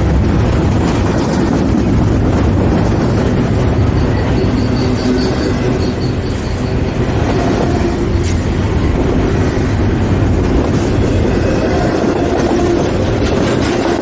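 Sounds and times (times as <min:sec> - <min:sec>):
sharp clicks of train wheels: 0:00.0 - 0:14.0
train wheels rumbling on rails: 0:00.0 - 0:14.0.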